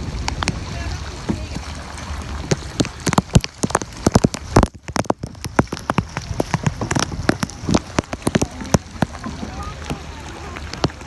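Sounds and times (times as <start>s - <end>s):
raindrops tapping: 0.0s - 11.0s.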